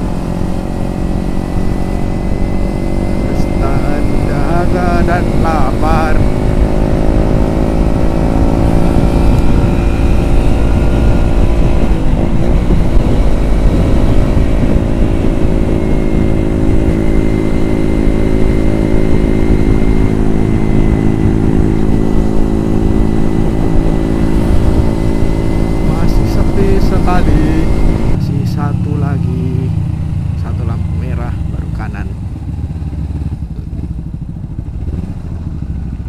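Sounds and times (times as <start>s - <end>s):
motorcycle engine cruising: 0.0s - 36.0s
wind and road noise: 0.0s - 36.0s.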